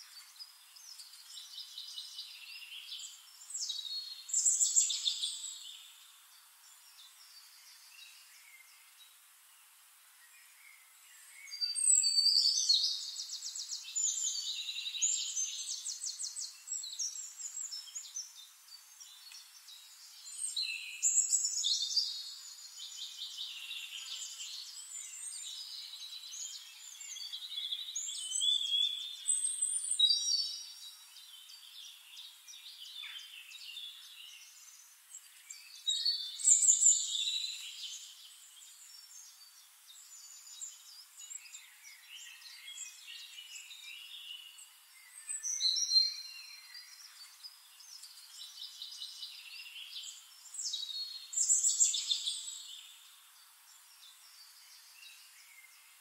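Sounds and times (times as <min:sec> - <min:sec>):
birds chirping and trilling: 0:00.0 - 0:09.2, 0:10.2 - 0:56.0.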